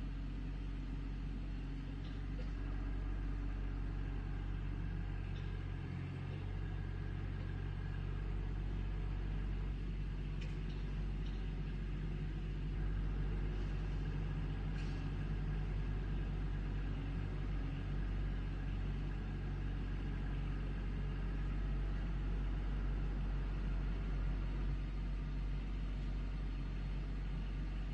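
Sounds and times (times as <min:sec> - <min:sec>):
diesel engine droning: 0:00.0 - 0:27.9.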